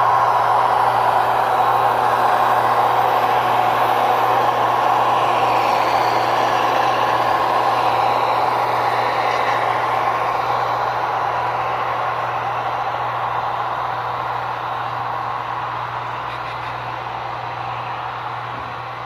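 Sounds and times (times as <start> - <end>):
simulated diesel engine drone: 0.0 - 19.0.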